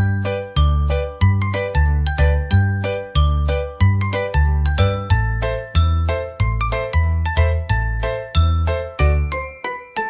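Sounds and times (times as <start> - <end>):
bell-like melody: 0.0 - 10.0.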